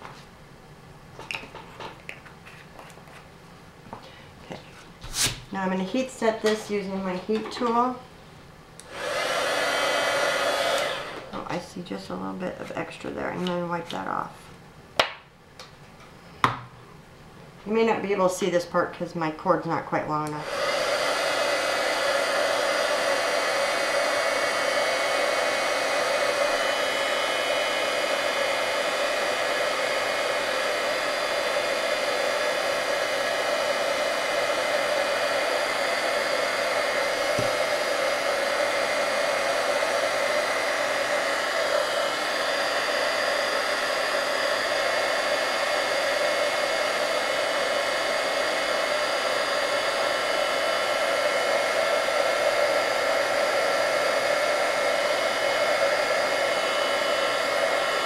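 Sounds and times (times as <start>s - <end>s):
heat tool blowing: 4.0s - 8.0s, 8.8s - 14.1s, 19.6s - 58.0s.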